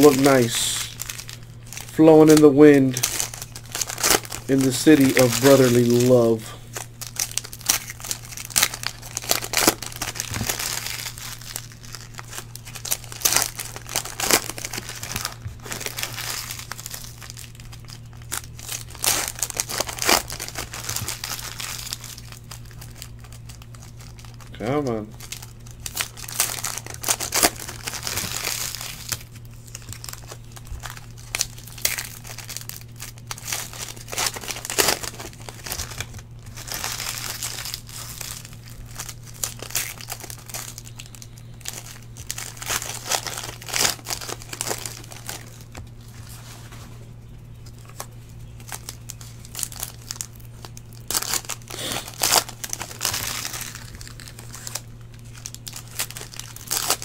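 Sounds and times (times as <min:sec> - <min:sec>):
plastic wrappers crinkling and tearing: 0:00.0 - 0:57.0.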